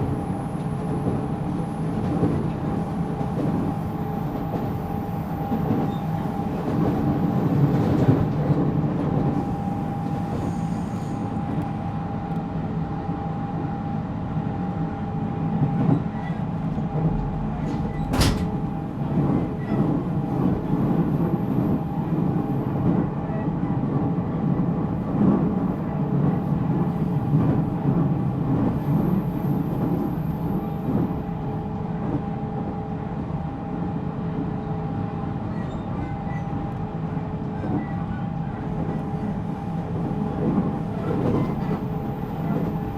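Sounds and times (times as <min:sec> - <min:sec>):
train rolling rumble with whine: 0:00.0 - 0:42.9.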